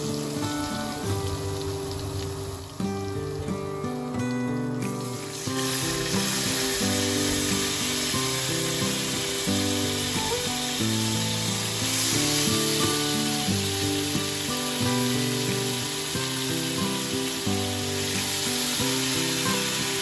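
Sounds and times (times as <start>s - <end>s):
background music: 0.0s - 20.0s
meat sizzling in hot fat: 0.0s - 20.0s.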